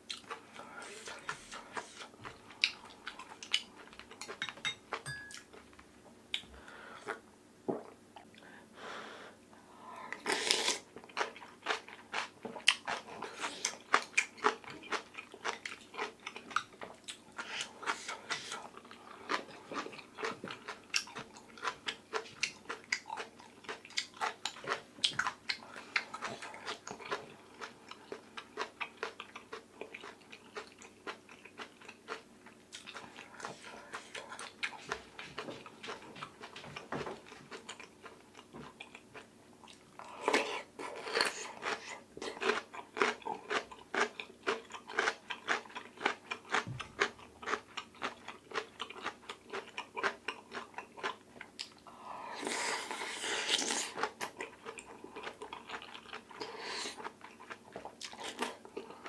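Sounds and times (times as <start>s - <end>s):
person chewing and crunching: 0.0s - 5.8s, 10.2s - 59.0s.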